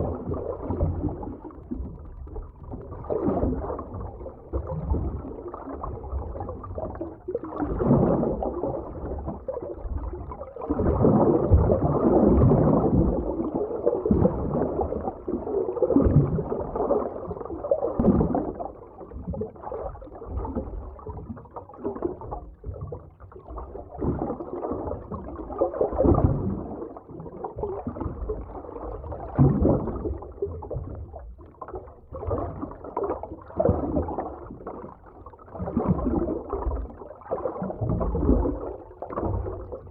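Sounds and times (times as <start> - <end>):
muffled underwater water surging: 0.0 - 39.9.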